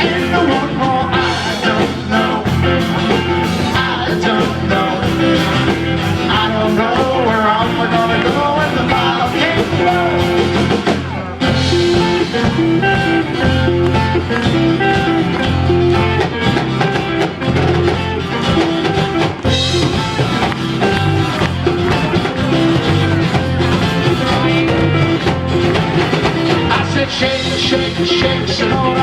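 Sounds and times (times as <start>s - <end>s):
bass line: 0.0s - 29.0s
guitar: 0.0s - 29.0s.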